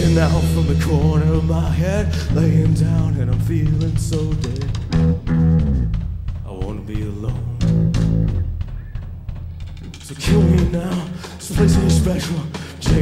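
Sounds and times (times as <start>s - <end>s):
electric guitar: 0.0s - 6.1s, 7.5s - 13.0s
heavy bass line: 0.0s - 11.0s, 11.6s - 12.2s.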